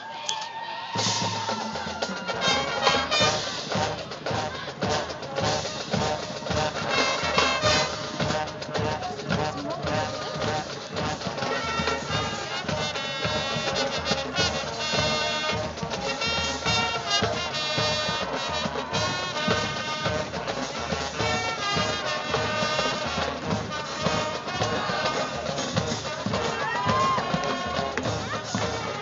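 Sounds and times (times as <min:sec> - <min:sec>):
marching band playing: 0:00.8 - 0:29.0.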